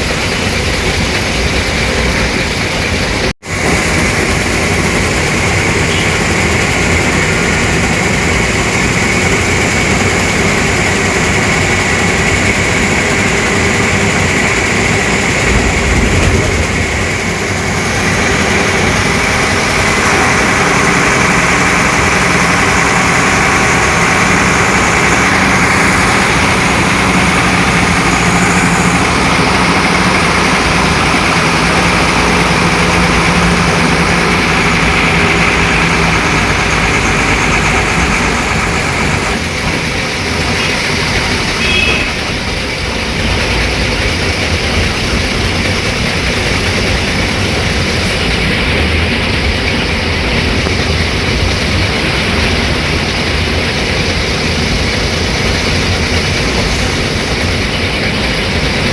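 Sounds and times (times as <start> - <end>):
bus diesel engine running: 0.0 - 58.9.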